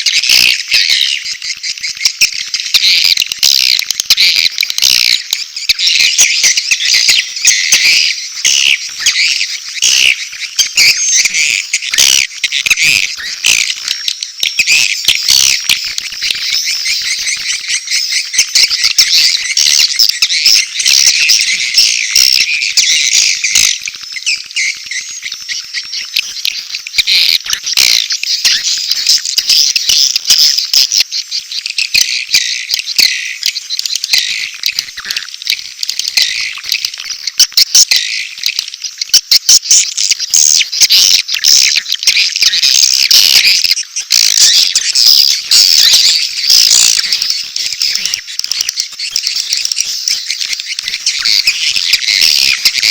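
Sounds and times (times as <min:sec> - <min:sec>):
swiftlets twittering: 0:00.0 - 0:52.9.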